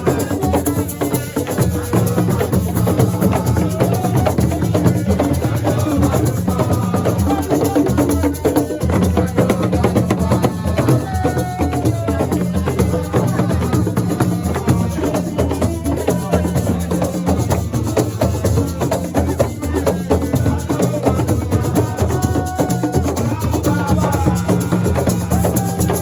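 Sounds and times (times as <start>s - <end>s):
fast drum beat: 0.0s - 26.0s
shakers: 0.0s - 26.0s.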